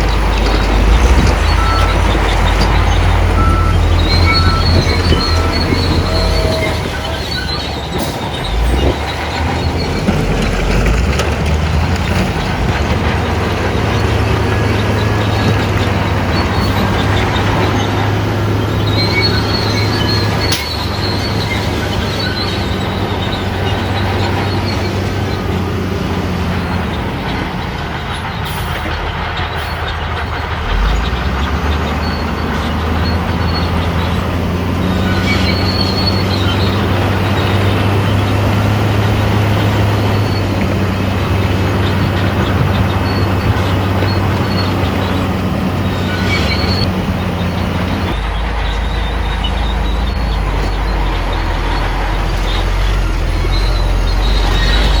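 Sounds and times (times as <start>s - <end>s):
bulldozer diesel engine: 0.0s - 55.0s
steel tracks squealing and clanking: 0.0s - 55.0s.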